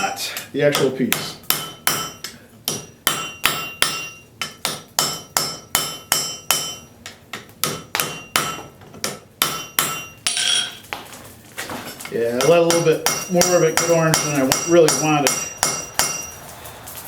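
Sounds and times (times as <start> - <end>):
hammer striking metal on anvil: 0.7 - 10.8, 12.3 - 16.4.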